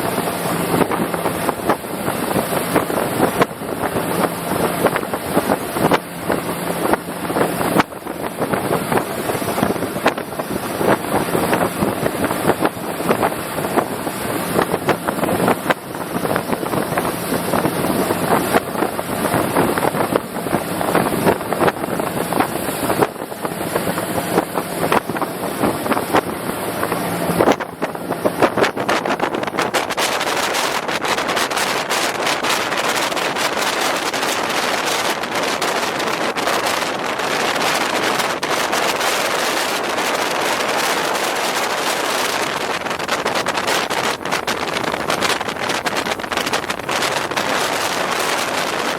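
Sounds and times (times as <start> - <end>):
outboard motor running: 0.0 - 48.9
wind on microphone: 0.0 - 48.9.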